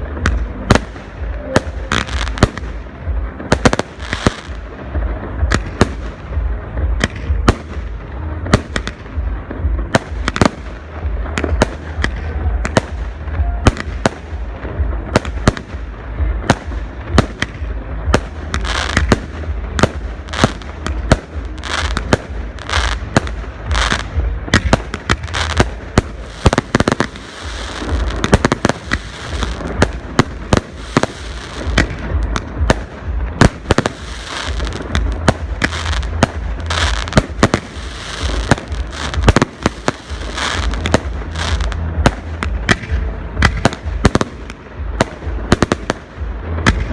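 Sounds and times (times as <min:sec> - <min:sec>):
fireworks bangs: 0:00.0 - 0:46.9
fireworks crackling: 0:00.0 - 0:46.9
low rumble: 0:00.0 - 0:46.9.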